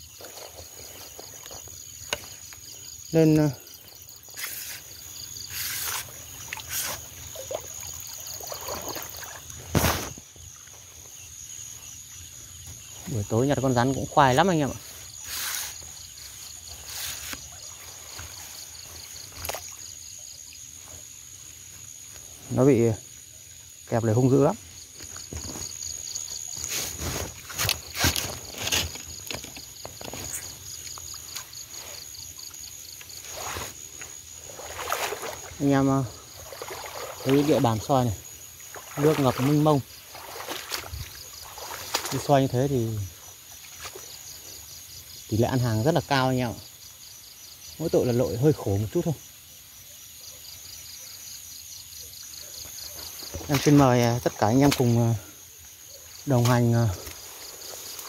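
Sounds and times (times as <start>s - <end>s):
rustling in a bush: 0.0s - 23.2s, 23.8s - 49.0s, 50.4s - 58.0s
crickets chirping: 0.0s - 58.0s
high insect trill: 0.0s - 58.0s.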